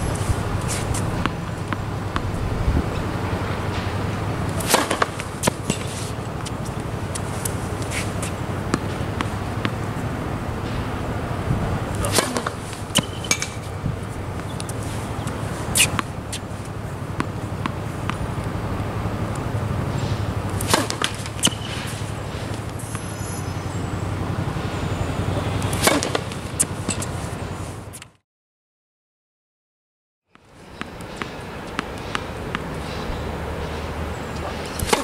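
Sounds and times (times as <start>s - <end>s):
steady low hum: 0.0s - 27.9s, 30.4s - 35.0s
tennis balls bouncing and hit: 0.0s - 28.1s, 30.3s - 35.0s.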